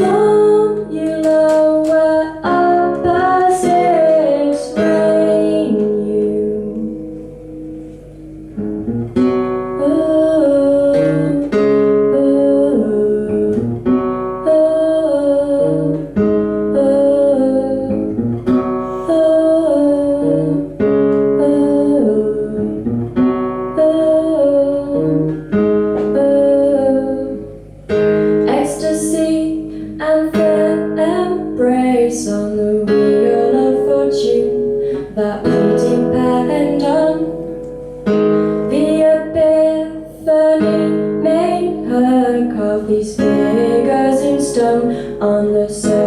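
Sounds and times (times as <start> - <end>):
acoustic guitar playing: 0.0 - 46.0.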